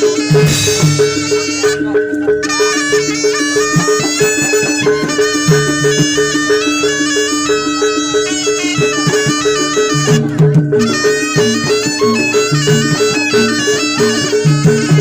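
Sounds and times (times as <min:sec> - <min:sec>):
drum strokes: 0:00.0 - 0:15.0
repeating percussion pattern: 0:00.0 - 0:15.0
shrill reed melody: 0:00.0 - 0:15.0.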